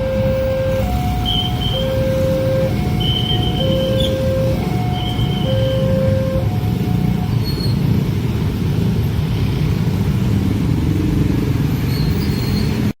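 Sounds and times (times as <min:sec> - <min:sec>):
low vehicle rumble: 0:00.0 - 0:11.8.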